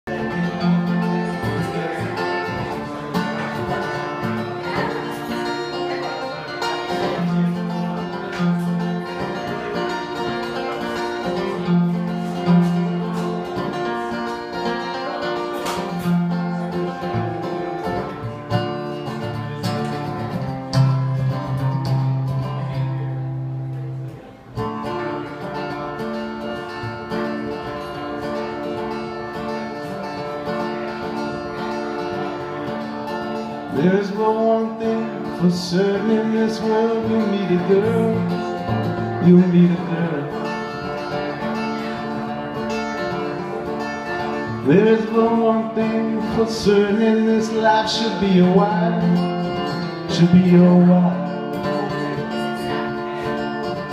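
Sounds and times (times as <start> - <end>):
acoustic guitar playing: 0.0 - 53.9.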